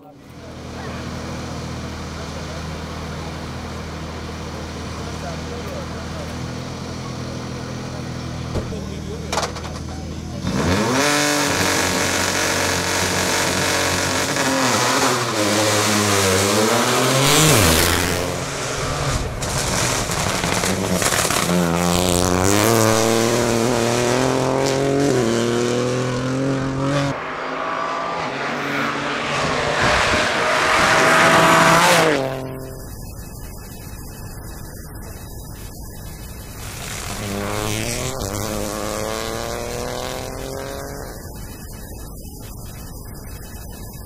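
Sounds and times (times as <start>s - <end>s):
rally car engine revving: 0.0s - 33.0s, 36.6s - 41.7s.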